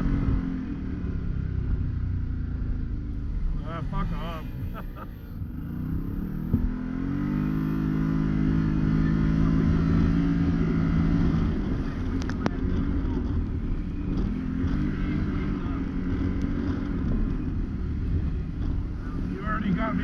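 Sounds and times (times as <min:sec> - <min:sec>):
engine accelerating: 0:00.0 - 0:20.0.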